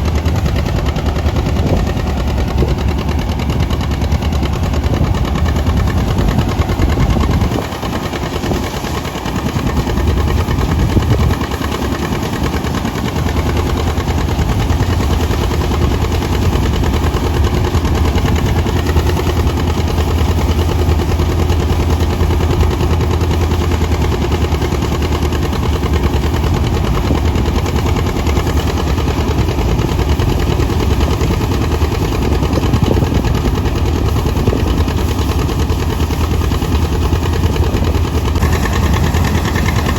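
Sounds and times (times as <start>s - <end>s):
diesel tractor engine popping: 0.0s - 39.9s.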